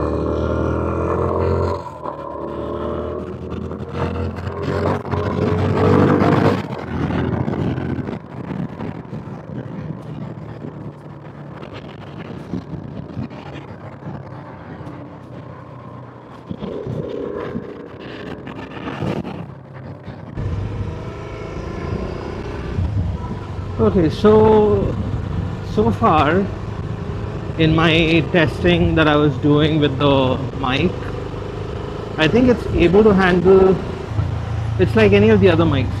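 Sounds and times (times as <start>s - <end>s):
motorcycle engine: 0.0s - 36.0s
road noise: 0.0s - 36.0s
wind noise: 0.0s - 36.0s.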